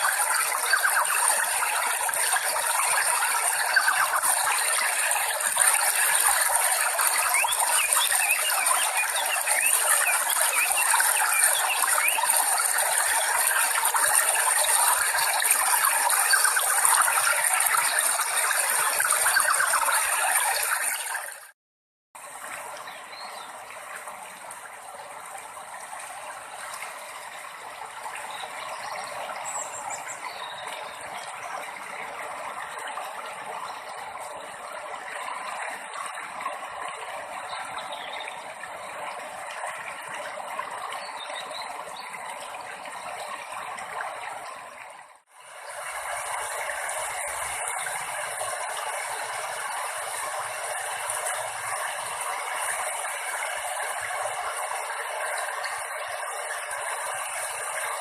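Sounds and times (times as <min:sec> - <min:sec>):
rushing water: 0:00.0 - 0:21.5, 0:22.2 - 0:58.0.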